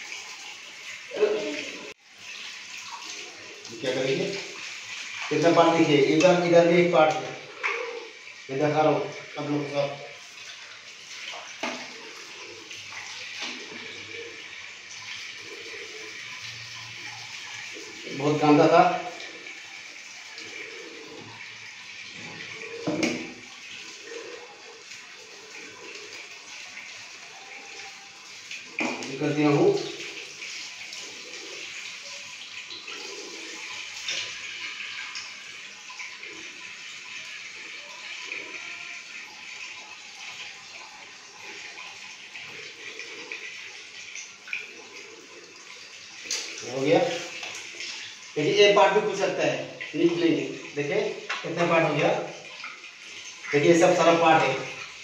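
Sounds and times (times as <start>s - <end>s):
water running: 0.0s - 55.0s.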